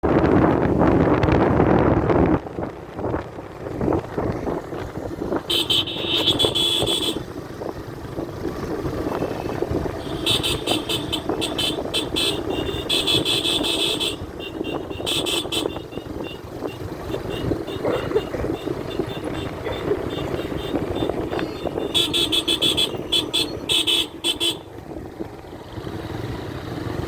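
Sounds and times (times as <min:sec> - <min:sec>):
motorcycle engine and wind rumble: 0:00.0 - 0:27.0.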